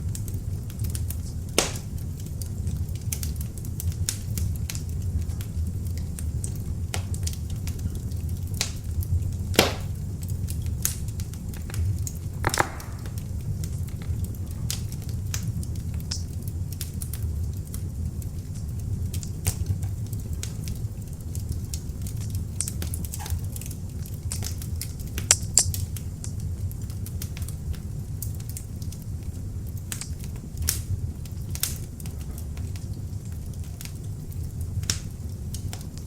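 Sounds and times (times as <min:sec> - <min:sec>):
logs crackling and popping: 0:00.0 - 0:36.0
low rumble of flame: 0:00.0 - 0:36.0.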